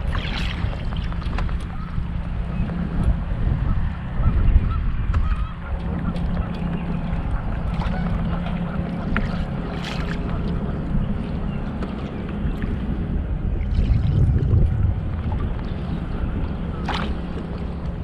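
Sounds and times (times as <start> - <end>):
water rushing around kayak: 0.0 - 18.0
wind buffeting microphone: 0.0 - 18.0.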